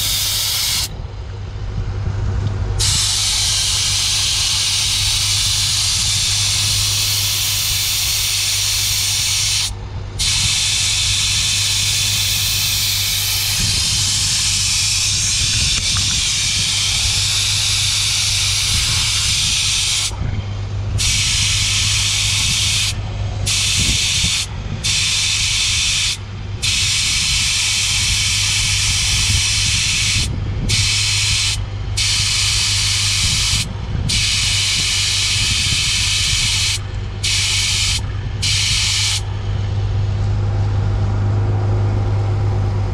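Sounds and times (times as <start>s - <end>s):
air hissing out of tyre: 0.0s - 0.9s, 2.8s - 20.2s, 20.9s - 39.3s.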